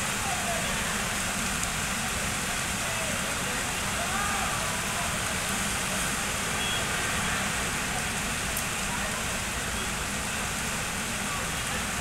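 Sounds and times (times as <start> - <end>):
rain falling on street and rooftops: 0.0 - 12.0.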